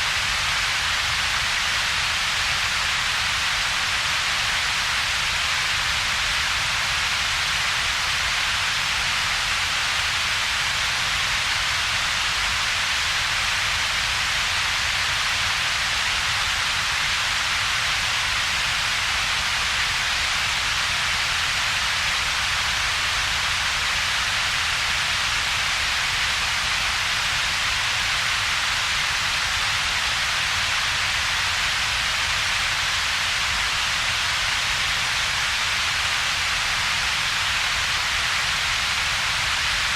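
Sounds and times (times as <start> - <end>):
bright synthetic hiss: 0.0 - 39.9.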